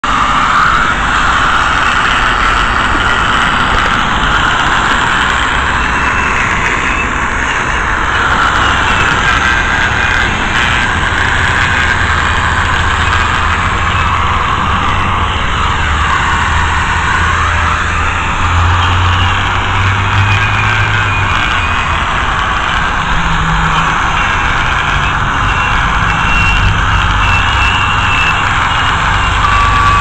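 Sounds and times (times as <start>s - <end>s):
angle grinder cutting concrete: 0.0s - 30.0s.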